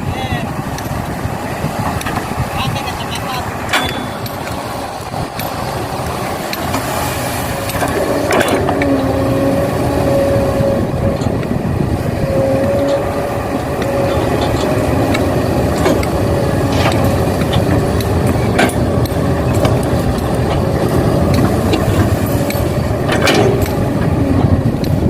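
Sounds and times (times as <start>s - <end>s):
engine whine: 0.0s - 25.0s
excavator engine running: 0.0s - 25.0s.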